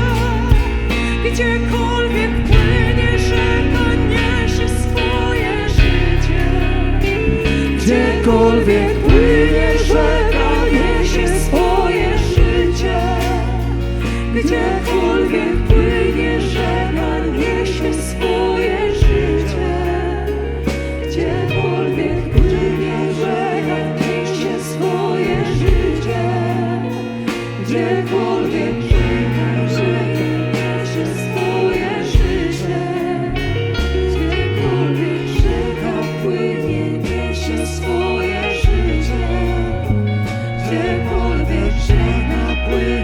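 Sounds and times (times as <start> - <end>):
people singing: 0.0 - 43.0
worship band playing slow music: 0.0 - 43.0.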